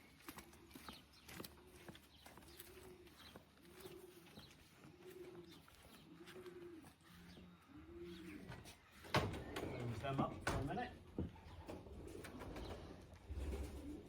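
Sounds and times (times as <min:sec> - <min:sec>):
pigeons cooing: 0:00.5 - 0:14.0.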